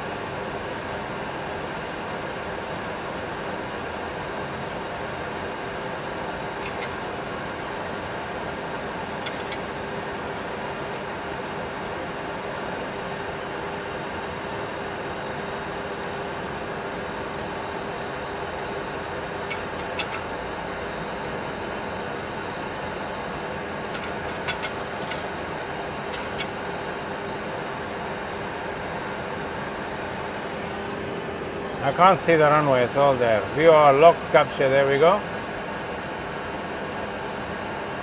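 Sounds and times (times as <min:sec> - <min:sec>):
cockpit hum and airflow: 0:00.1 - 0:38.0.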